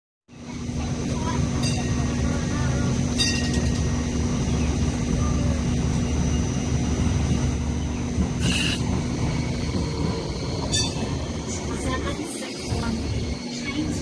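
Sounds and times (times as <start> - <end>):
light rail vehicle rumble: 0.3 - 14.0.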